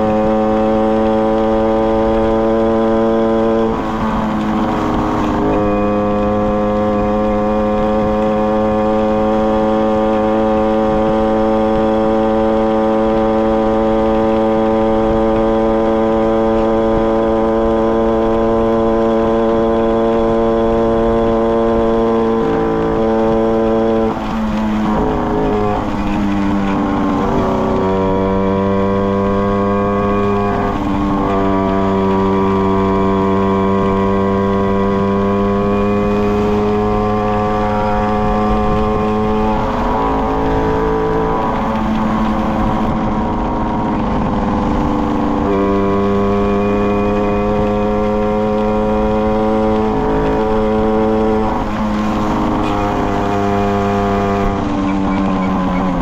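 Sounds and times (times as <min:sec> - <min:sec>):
moped engine running: 0:00.0 - 0:56.0.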